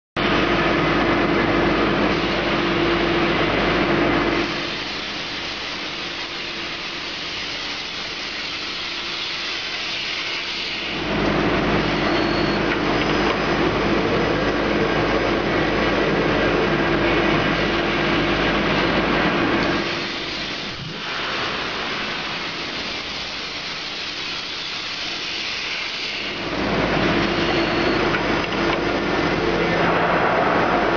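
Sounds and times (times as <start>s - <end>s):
metal grooving machine humming: 0.2s - 30.9s.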